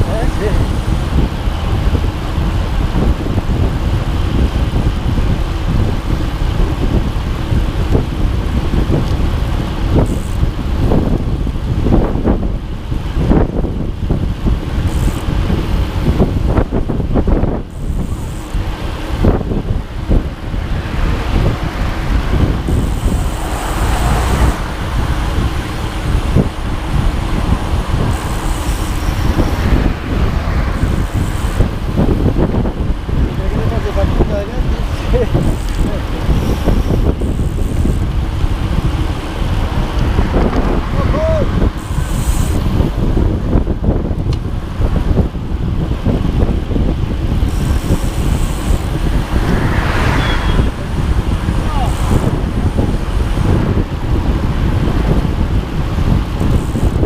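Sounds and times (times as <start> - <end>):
vehicle rumble: 0.0 - 57.0
wind buffeting microphone: 0.0 - 57.0.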